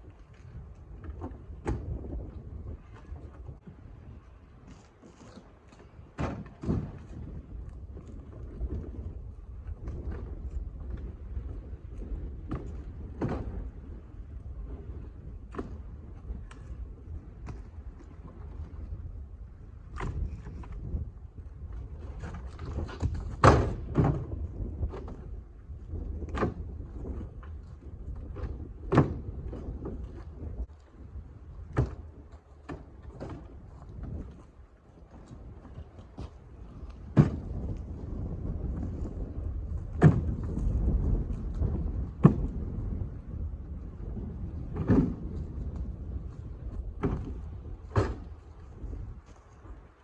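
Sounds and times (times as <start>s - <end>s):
wind rumble on microphone: 0.0s - 50.0s.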